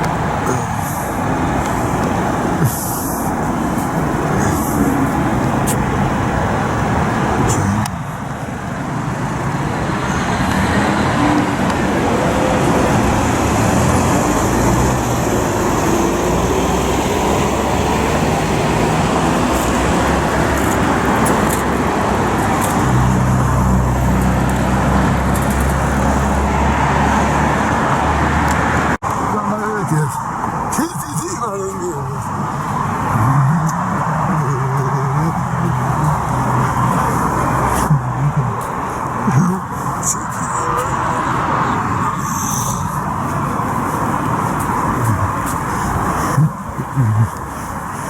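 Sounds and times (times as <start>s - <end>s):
heavy vehicle engine drone: 0.0s - 48.0s
road traffic: 0.0s - 48.0s.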